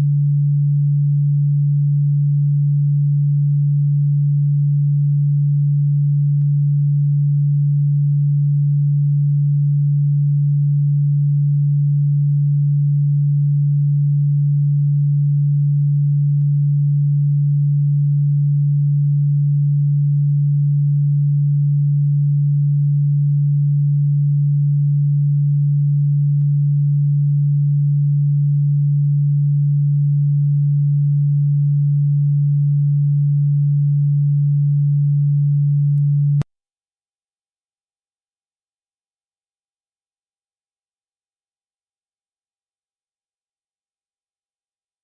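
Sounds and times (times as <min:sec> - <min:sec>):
steady low pure tone: 0:00.0 - 0:36.5.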